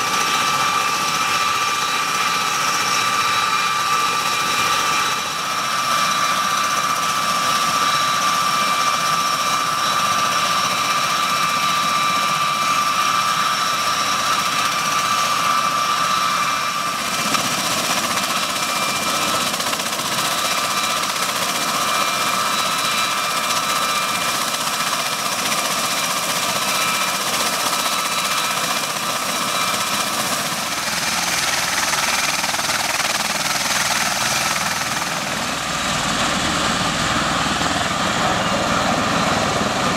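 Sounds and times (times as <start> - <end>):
high turbine whine: 0.0 - 39.9.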